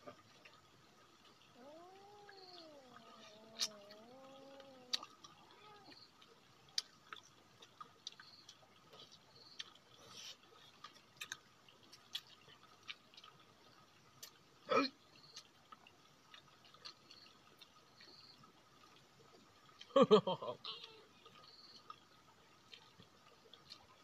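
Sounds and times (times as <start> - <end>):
chewing: 0.0 - 14.6, 15.2 - 20.0, 20.6 - 24.0.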